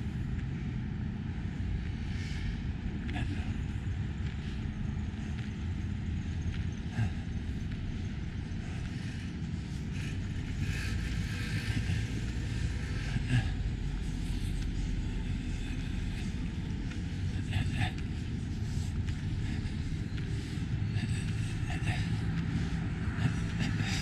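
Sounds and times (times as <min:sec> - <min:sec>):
low rumble of cars: 0:00.0 - 0:24.0.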